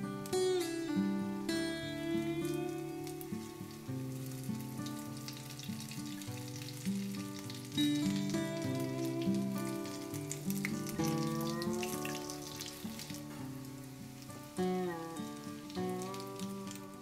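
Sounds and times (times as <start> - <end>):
background music: 0.0 - 17.0
patties sizzling in hot oil: 0.0 - 17.0.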